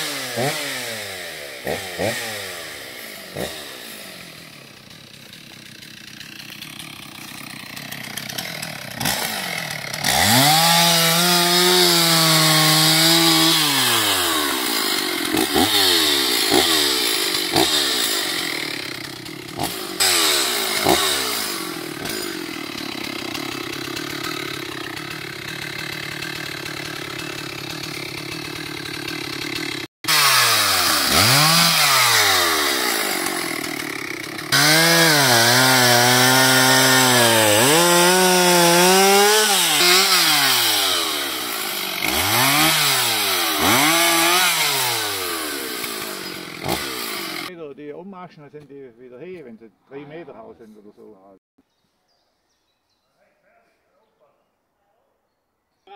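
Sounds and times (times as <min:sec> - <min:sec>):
chainsaw engine revving: 0:00.0 - 0:47.5.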